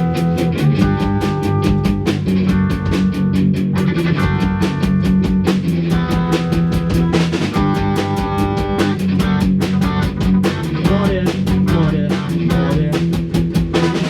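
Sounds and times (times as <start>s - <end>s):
drum kit beat: 0.0s - 14.0s
electric guitar chords: 0.0s - 14.0s.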